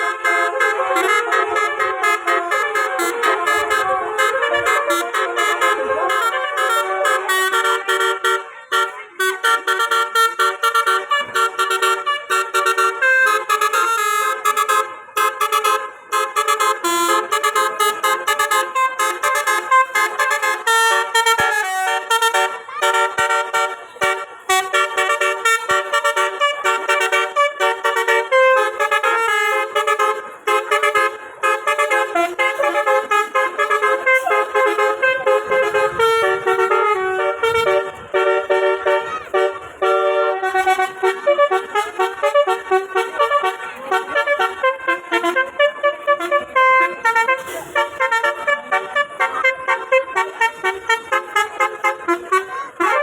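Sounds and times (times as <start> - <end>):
multi-trumpet bus horn melody: 0.0 - 53.0.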